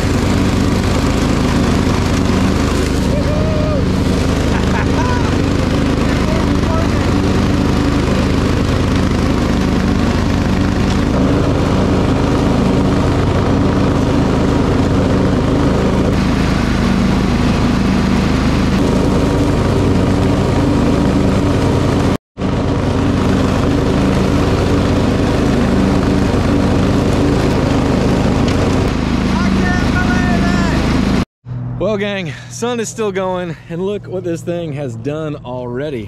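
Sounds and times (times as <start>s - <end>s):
riding mower cutting grass: 0.0s - 36.0s.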